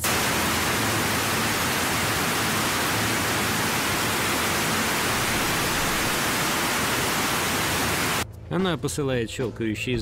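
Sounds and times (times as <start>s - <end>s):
steady hiss: 0.0s - 8.2s.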